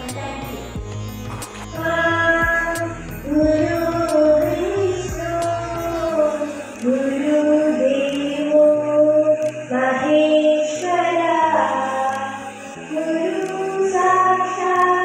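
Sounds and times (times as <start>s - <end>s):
girl singing into a microphone: 1.7s - 15.0s.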